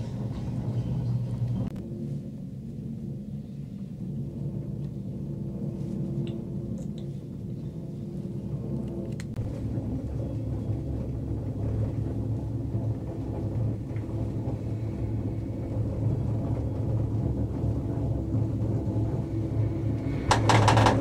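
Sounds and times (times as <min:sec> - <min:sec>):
gondola cabin rumble and hum: 0:00.0 - 0:21.0.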